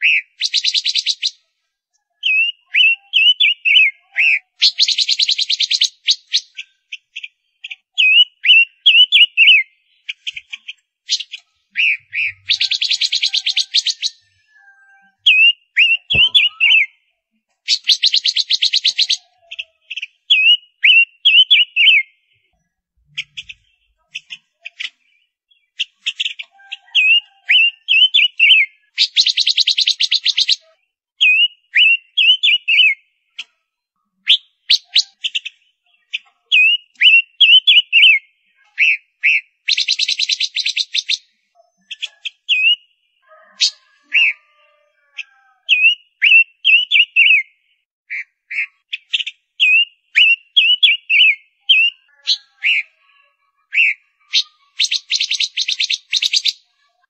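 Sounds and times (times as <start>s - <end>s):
bird whistling song: 0.0s - 1.5s, 2.2s - 17.0s, 17.7s - 22.2s, 23.1s - 33.1s, 34.2s - 53.0s, 53.7s - 56.8s.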